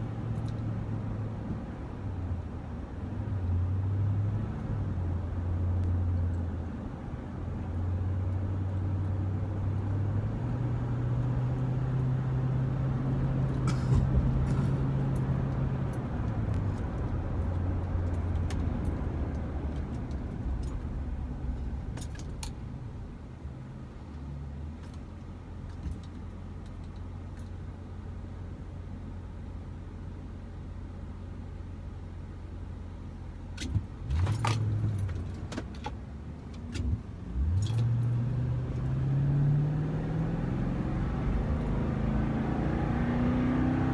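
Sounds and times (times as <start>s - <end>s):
vehicle engine humming: 0.0s - 43.9s.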